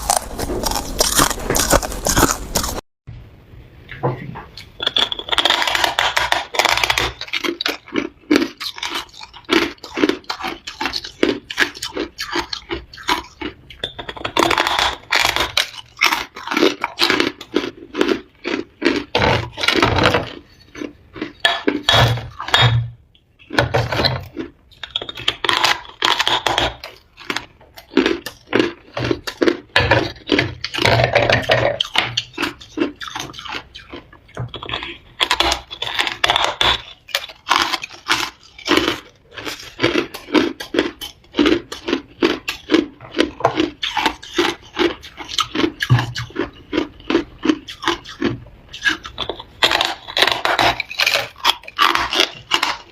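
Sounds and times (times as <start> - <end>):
chewing ice crunches: 0.0 - 2.8, 4.8 - 22.8, 23.4 - 52.9.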